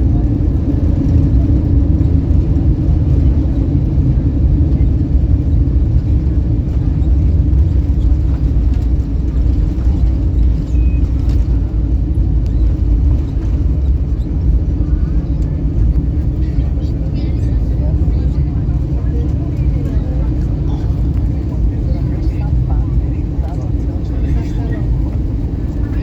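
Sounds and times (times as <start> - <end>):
airliner engine rumble in cabin: 0.0 - 26.0.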